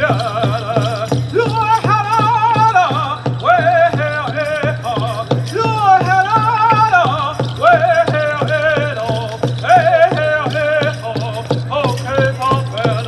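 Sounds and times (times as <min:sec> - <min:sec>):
steady drumbeat: 0:00.0 - 0:13.0.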